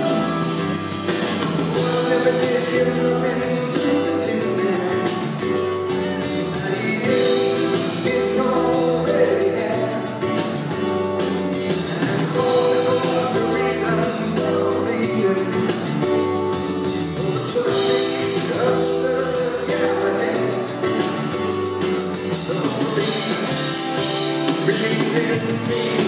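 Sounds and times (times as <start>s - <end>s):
drum kit beat: 0.0s - 26.0s
strummed acoustic guitars: 0.0s - 26.0s
man singing lead: 1.3s - 26.0s.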